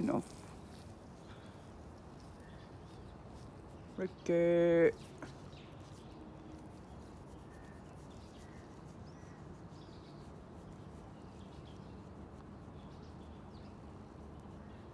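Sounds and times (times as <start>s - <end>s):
faint bird chirps: 0.2s - 4.1s, 5.0s - 14.9s.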